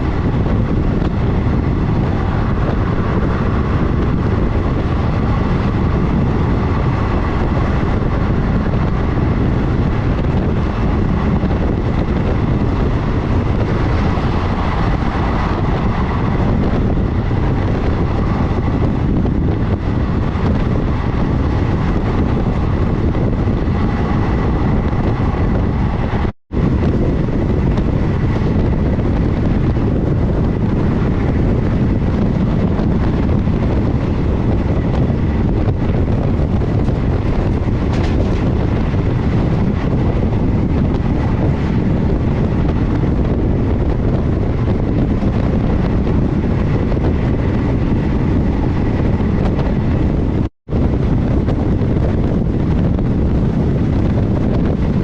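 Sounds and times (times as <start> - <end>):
train wheels rumbling on rail: 0.0 - 55.0
wind noise: 0.0 - 55.0.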